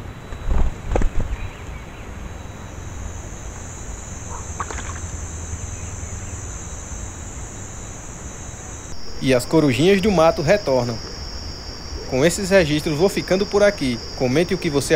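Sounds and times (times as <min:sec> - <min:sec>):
high-pitched insect chorus: 0:00.0 - 0:14.9.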